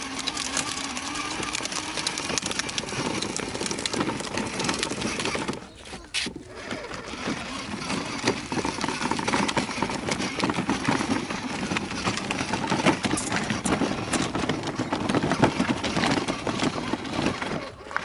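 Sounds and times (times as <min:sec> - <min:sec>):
plastic wheels crunching on gravel: 0:00.0 - 0:18.0
toy body rattling: 0:00.0 - 0:18.0.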